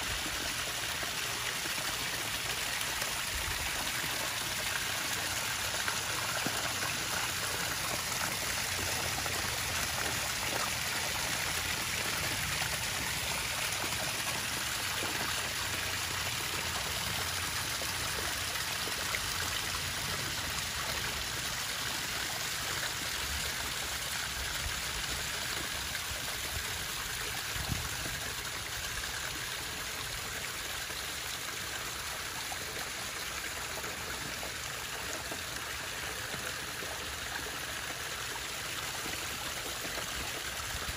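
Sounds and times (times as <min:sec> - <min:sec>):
trickling pond water: 0:00.0 - 0:40.9.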